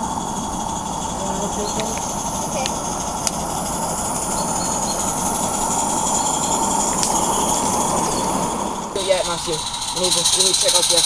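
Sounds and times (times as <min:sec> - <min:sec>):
model train wheels clattering: 0:00.0 - 0:11.0.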